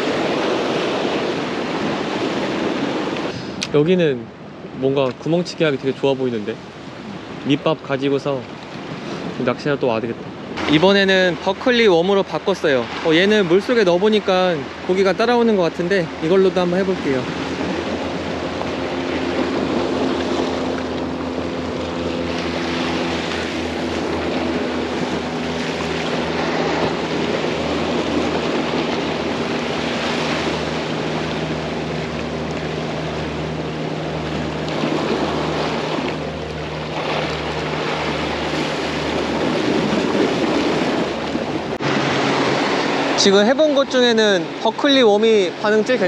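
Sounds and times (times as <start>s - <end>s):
boat engine humming: 0.0s - 46.0s
sea waves washing on shore: 0.0s - 46.0s.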